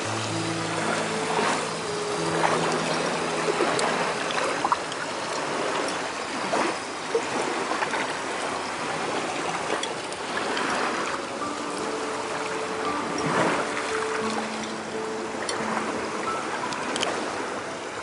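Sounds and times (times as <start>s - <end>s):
surf washing on shore: 0.0s - 18.0s.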